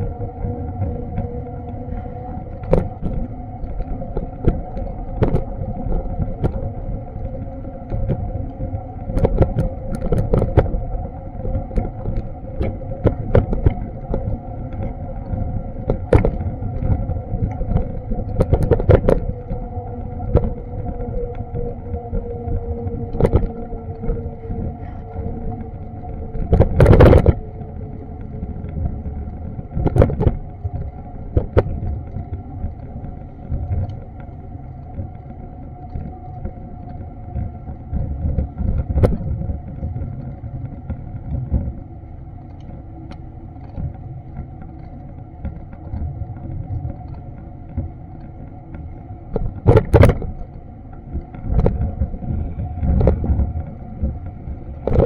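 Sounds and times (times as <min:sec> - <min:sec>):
faint hum: 0:00.0 - 0:55.0
wind on microphone: 0:00.0 - 0:55.0.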